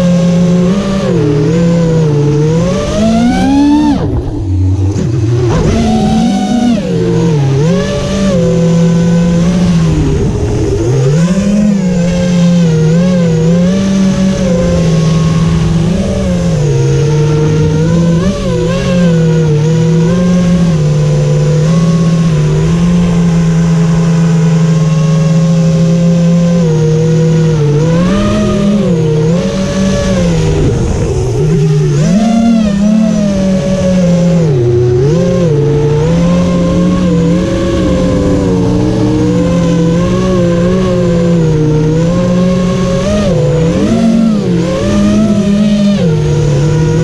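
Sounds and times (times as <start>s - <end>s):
drone motors and propellers whining: 0.0s - 47.0s.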